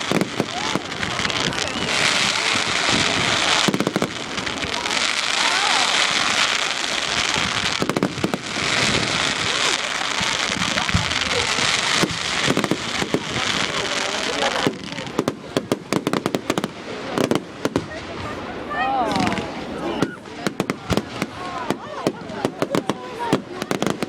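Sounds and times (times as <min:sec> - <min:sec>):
crowd voices: 0:00.0 - 0:24.0
fireworks bangs: 0:00.0 - 0:24.0
fireworks crackling: 0:00.0 - 0:24.0.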